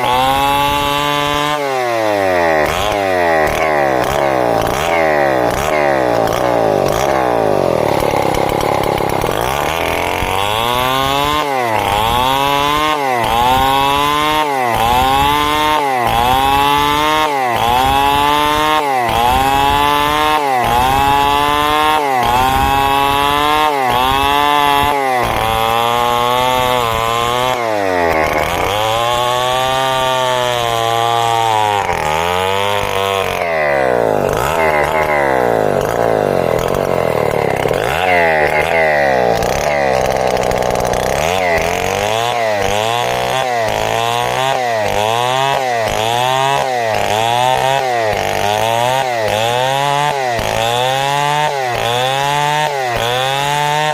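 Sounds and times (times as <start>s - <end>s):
chainsaw ripping timber: 0.0s - 53.9s.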